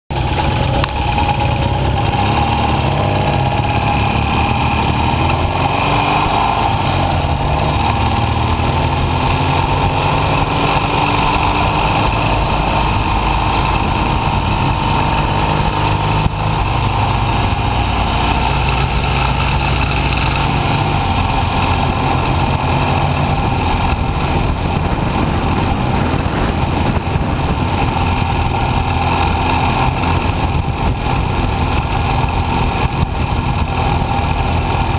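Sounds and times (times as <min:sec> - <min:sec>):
motorcycle engine revving: 0:00.1 - 0:34.9
wind noise: 0:00.1 - 0:34.9.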